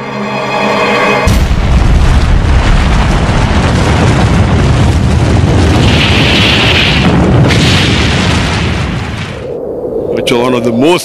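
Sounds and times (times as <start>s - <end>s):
deep explosion boom: 1.2s - 10.2s.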